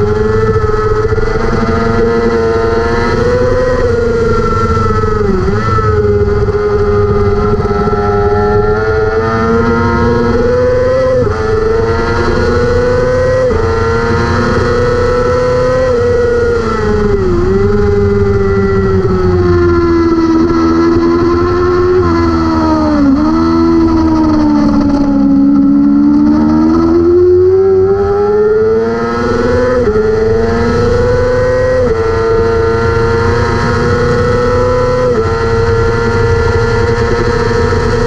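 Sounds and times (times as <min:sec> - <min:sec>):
motorcycle engine at racing revs: 0:00.0 - 0:38.0.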